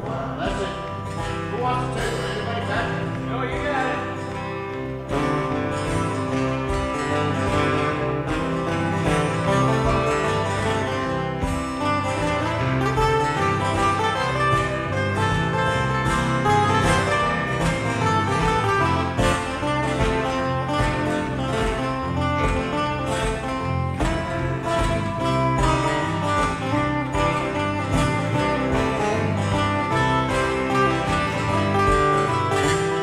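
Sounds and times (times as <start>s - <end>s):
acoustic guitars strumming: 0.0s - 33.0s
bass line: 0.0s - 33.0s
plucked lead: 0.0s - 33.0s.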